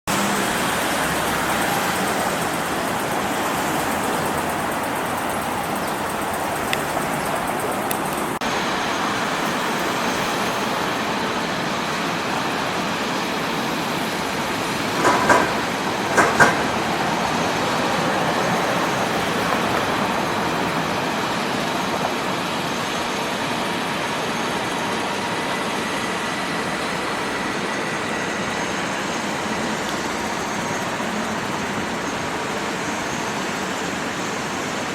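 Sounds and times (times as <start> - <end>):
train running on viaduct: 0.1 - 34.9.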